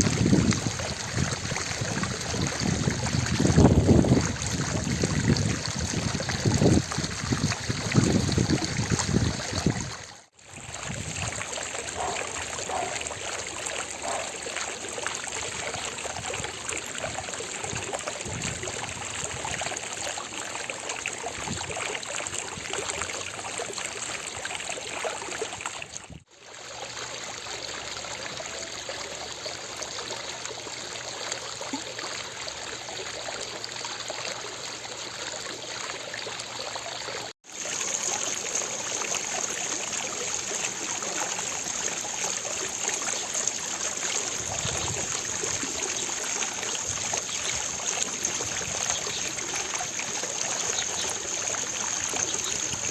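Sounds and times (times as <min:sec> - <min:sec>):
fountain water splashing: 0:00.0 - 0:52.9.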